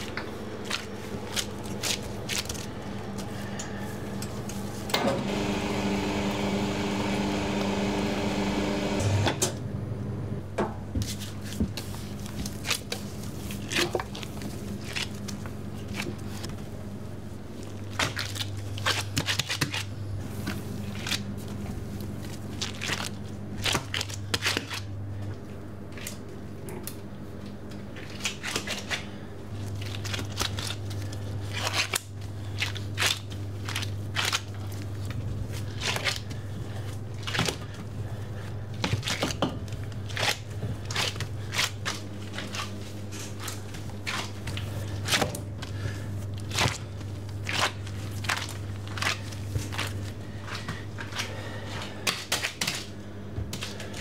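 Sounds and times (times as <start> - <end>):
dough tearing clicks and crackles: 0.0 - 3.3, 11.7 - 16.7, 17.5 - 54.0
low machine hum: 0.0 - 54.0.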